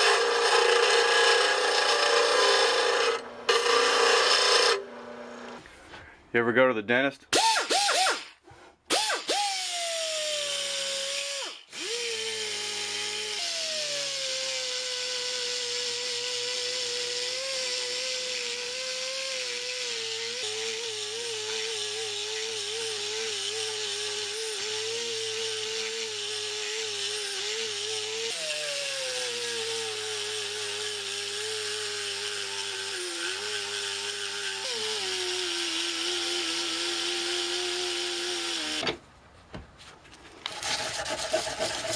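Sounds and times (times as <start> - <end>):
die grinder whining on metal: 0.0 - 5.6, 8.9 - 38.9.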